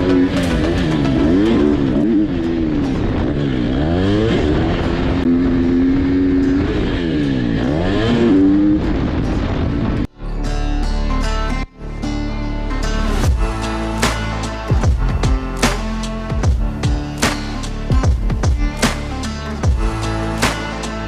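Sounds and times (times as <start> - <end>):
dirt bike engine at high revs: 0.0 - 10.1, 13.2 - 21.0.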